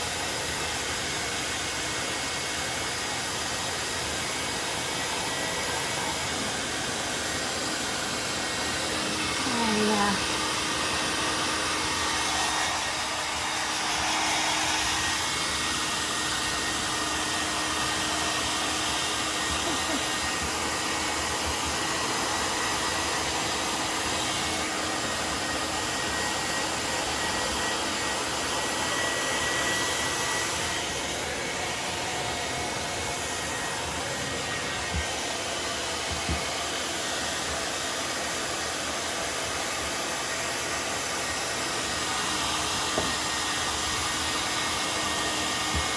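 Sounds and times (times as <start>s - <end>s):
hair dryer blowing: 0.0s - 45.9s.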